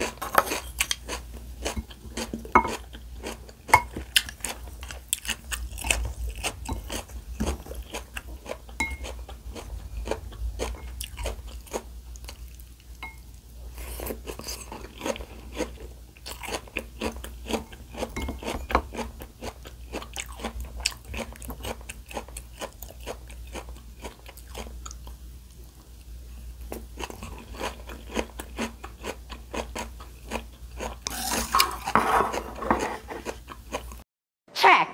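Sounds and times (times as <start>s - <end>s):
chewing and crunching food: 0.0s - 13.0s, 13.6s - 34.0s.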